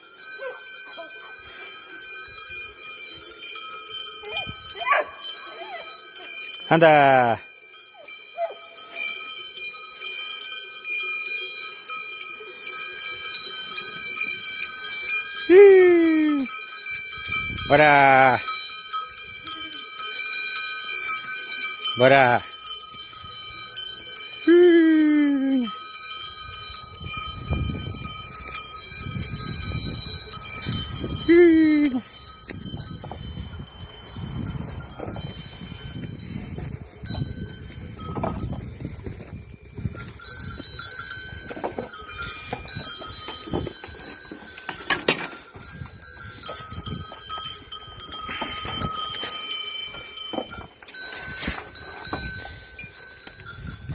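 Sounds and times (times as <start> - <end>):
goat bells jingling: 0.0 - 53.9.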